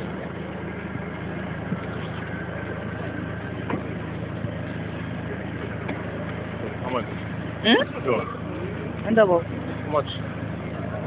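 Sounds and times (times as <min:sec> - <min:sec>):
engine idling hum: 0:00.0 - 0:11.0
faint street noise: 0:00.0 - 0:11.0.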